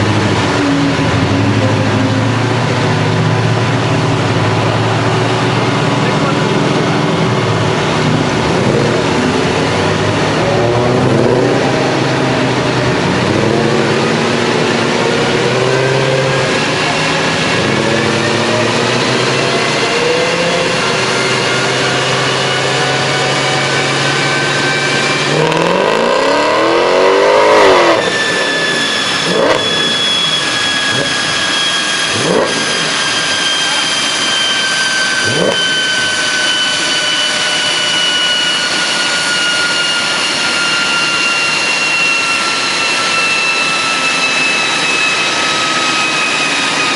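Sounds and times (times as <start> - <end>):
car engine revving on a dyno: 0.0 - 46.9
high whine of rollers coasting: 0.0 - 46.9.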